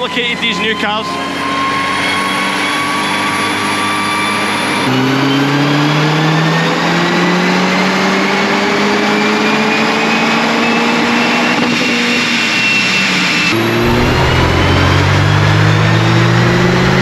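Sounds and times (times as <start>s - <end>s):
turbocharged engine revving under load: 1.2s - 17.0s.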